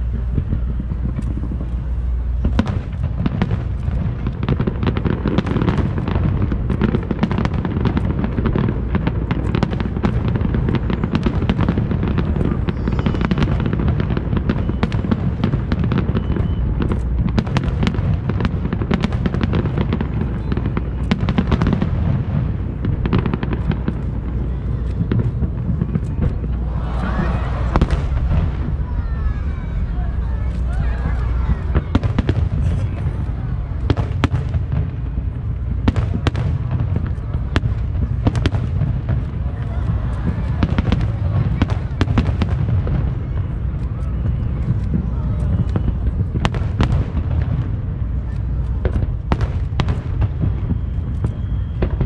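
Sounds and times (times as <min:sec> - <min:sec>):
fireworks cracks and bangs: 0:00.0 - 0:52.0.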